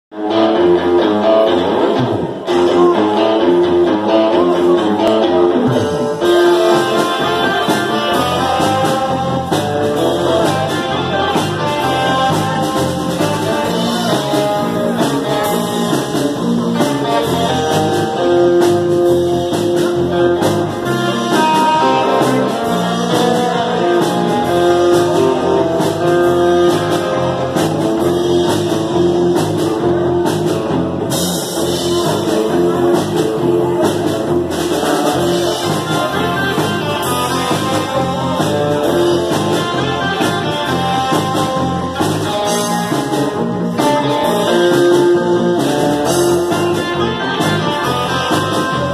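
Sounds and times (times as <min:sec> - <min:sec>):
live band playing amplified music: 0:00.1 - 0:48.9.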